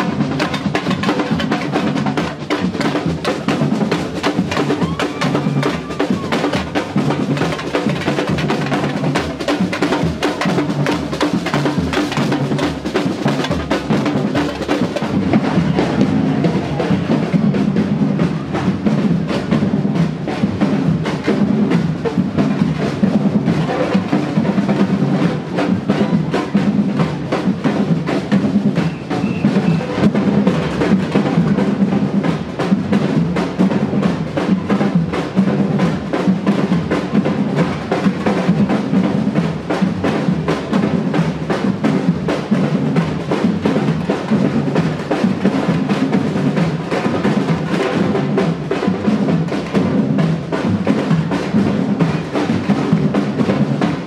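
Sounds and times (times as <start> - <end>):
samba percussion band drumming: 0.0 - 54.0.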